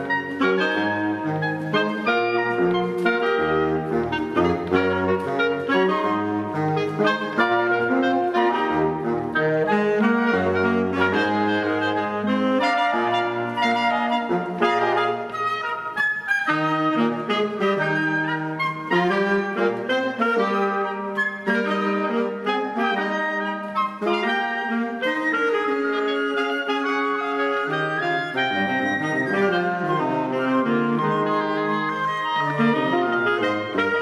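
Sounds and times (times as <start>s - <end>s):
wind ensemble playing: 0.0s - 34.0s.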